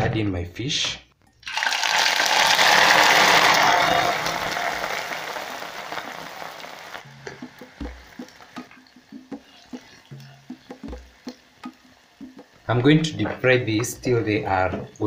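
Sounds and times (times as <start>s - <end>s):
oil sizzling and crackling: 1.4s - 15.0s.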